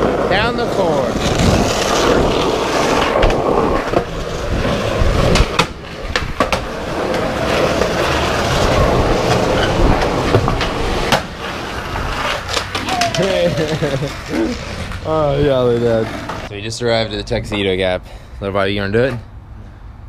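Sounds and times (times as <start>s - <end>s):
skateboard wheels rolling on concrete: 0.0s - 18.0s.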